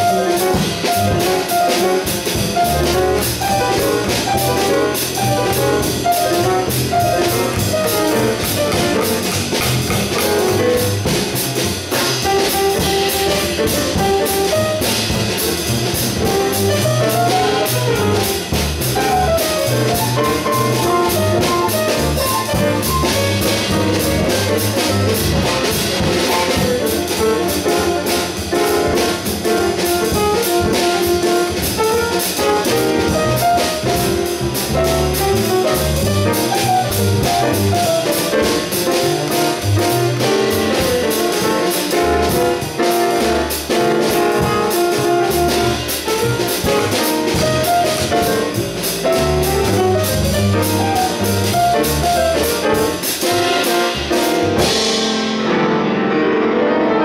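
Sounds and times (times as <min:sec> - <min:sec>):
bass line: 0:00.0 - 0:54.9
drum cymbals: 0:00.0 - 0:55.4
piano lines: 0:00.0 - 0:57.0.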